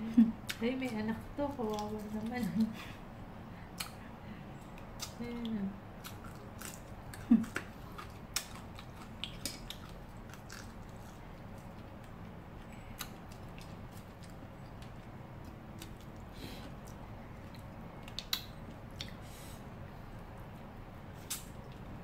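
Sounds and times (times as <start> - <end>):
soft chewing: 0.2 - 22.0.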